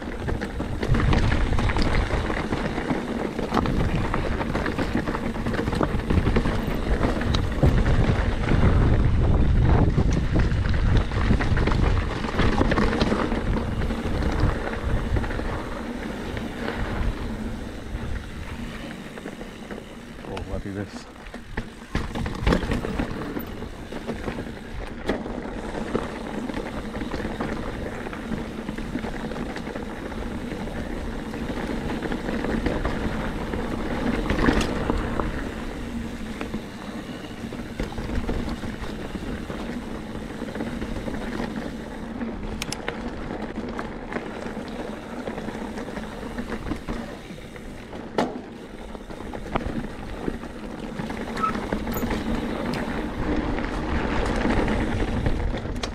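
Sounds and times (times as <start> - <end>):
bike tyres rolling on trail: 0.0 - 55.9.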